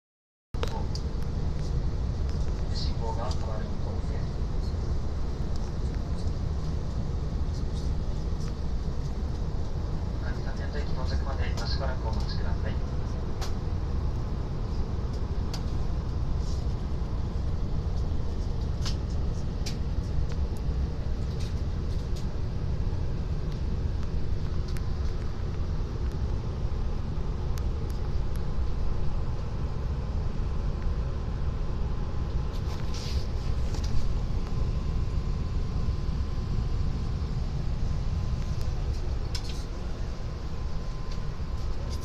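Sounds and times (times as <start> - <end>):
faint steady hum: 0.6 - 42.0.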